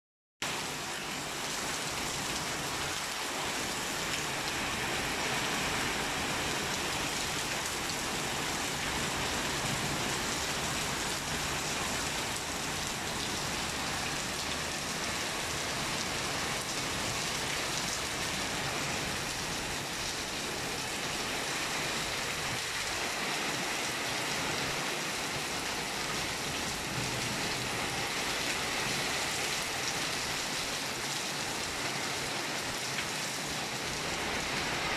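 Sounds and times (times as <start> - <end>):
rain falling steadily: 0.4 - 34.9.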